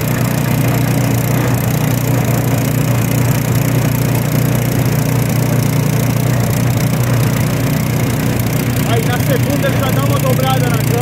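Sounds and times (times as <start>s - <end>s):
gasoline engine running under load: 0.0s - 11.0s.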